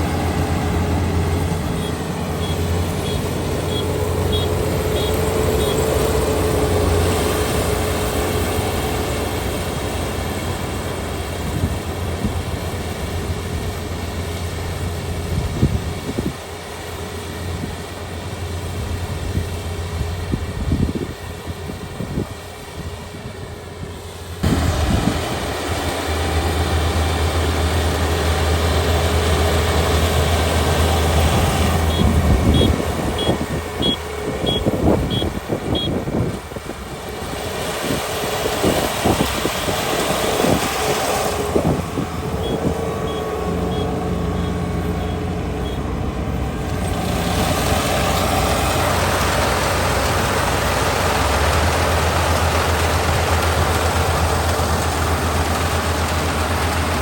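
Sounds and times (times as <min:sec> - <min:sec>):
clatter of threshing machinery: 0:00.0 - 0:57.0
diesel engine droning under load: 0:00.0 - 0:57.0.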